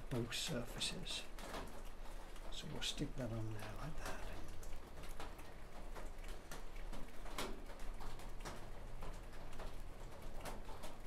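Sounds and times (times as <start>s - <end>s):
light clicks and taps: 0.0s - 11.0s.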